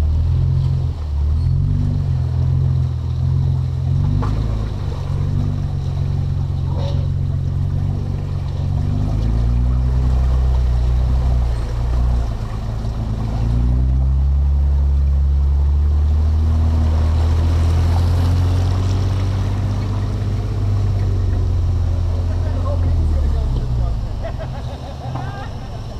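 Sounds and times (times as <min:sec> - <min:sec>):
truck engine running under load: 0:00.0 - 0:25.9
water sloshing and splashing: 0:00.2 - 0:25.9.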